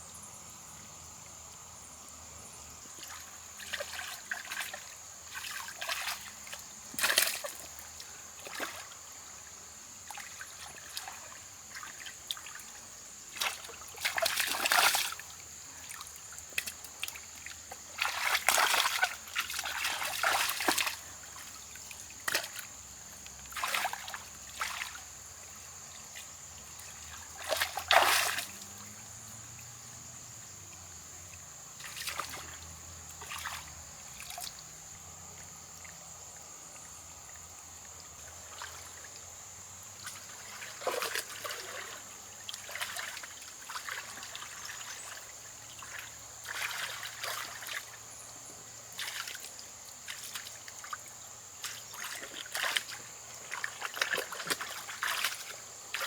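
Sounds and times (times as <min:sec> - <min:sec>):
high insect drone: 0:00.0 - 0:56.0
water splashing and sloshing: 0:02.8 - 0:56.0.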